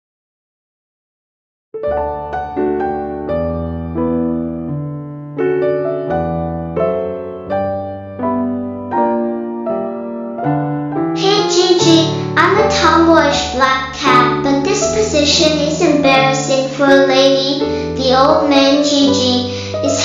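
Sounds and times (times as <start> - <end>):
electric piano chords: 1.8 - 20.0.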